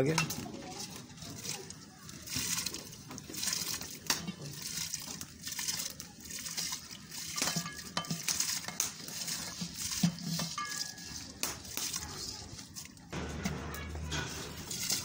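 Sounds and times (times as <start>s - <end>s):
rice pouring into boiling water: 0.7s - 13.2s.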